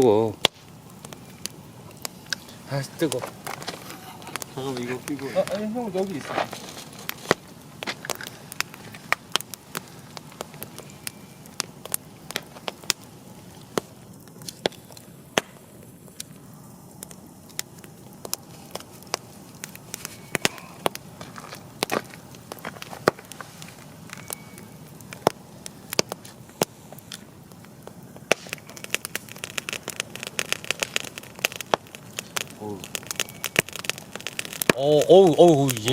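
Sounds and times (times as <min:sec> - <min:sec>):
campfire crackling and popping: 0:00.0 - 0:35.9
fire hissing: 0:00.0 - 0:35.9.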